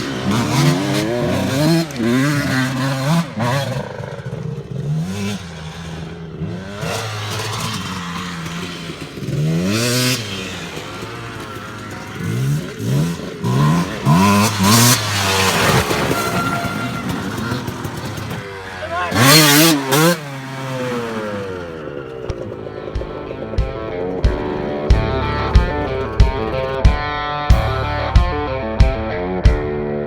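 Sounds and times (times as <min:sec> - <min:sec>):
dirt bike engine revving: 0:00.0 - 0:29.1.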